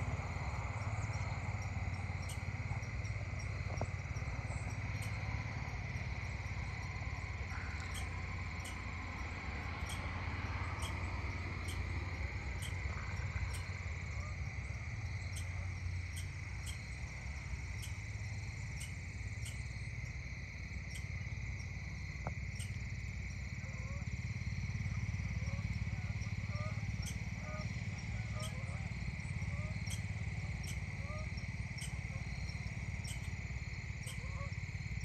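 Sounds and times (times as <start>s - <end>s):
insects trilling: 0.0s - 35.0s
low steady rumble: 0.0s - 35.0s
short cricket chirp: 0.0s - 35.0s.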